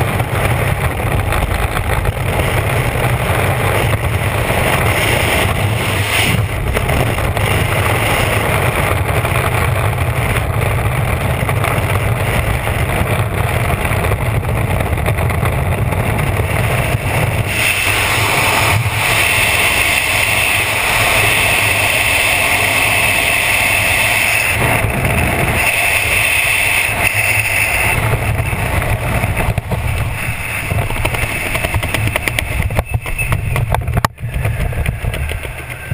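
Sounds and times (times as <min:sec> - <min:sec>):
wind rushing over microphone: 0:00.0 - 0:35.9.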